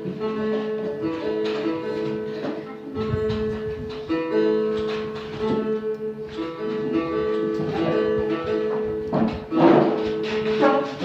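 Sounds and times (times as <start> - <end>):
plucked lute melody with drone: 0.0 - 11.0.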